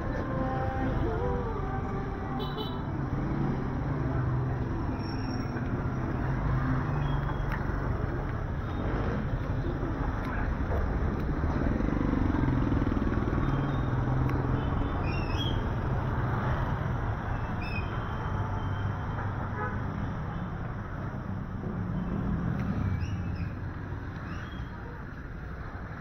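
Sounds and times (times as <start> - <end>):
motorcycle engines humming: 0.0 - 26.0.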